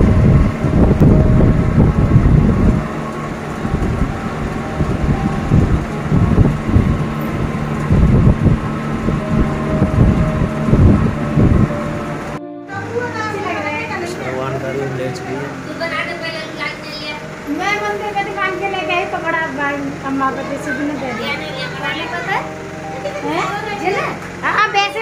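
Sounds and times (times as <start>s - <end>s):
fan air buffeting microphone: 0.0s - 25.0s
fan motor hum: 0.0s - 25.0s.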